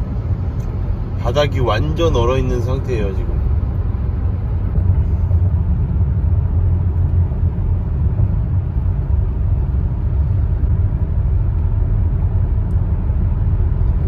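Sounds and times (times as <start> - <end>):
low road and engine rumble: 0.0 - 14.0.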